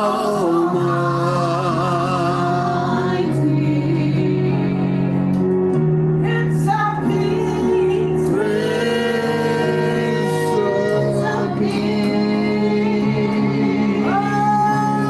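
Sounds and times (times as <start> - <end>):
voices singing held notes: 0.0 - 5.1, 6.4 - 15.0
instrumental accompaniment: 0.0 - 15.0.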